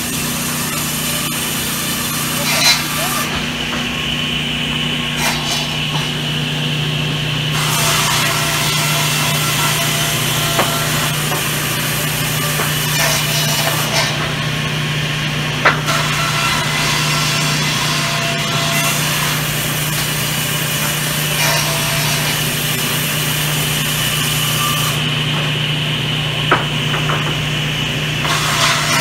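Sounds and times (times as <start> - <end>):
circular saw cutting wood: 0.0 - 29.0
motor humming: 0.0 - 29.0.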